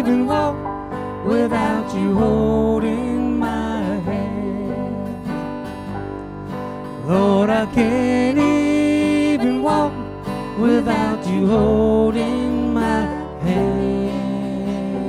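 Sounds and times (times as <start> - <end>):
acoustic guitar strumming: 0.0 - 15.0
electric bass: 0.0 - 15.0
keyboard: 0.0 - 15.0.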